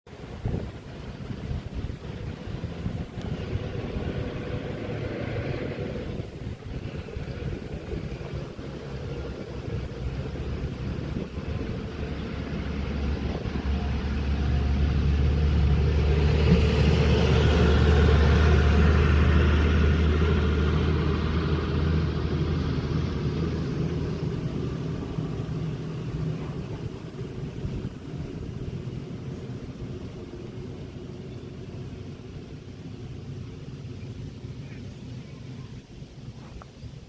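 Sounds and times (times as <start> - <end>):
motor vehicle passing by: 0.2 - 35.6.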